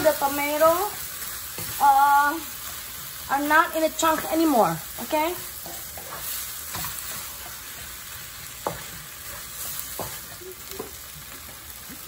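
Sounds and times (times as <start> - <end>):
meat sizzling in a wok: 0.0 - 12.0
spatula scraping and knocking pan: 0.0 - 12.0.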